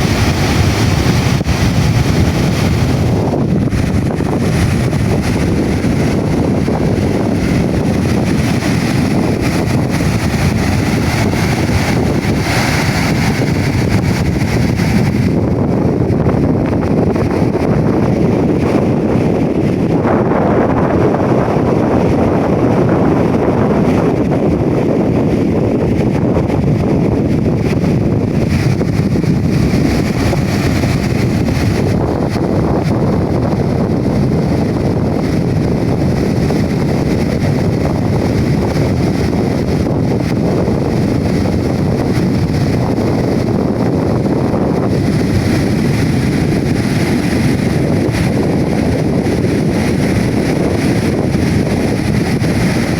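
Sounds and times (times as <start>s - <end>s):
waves washing on beach: 0.0s - 52.9s
wind buffeting microphone: 0.0s - 52.9s.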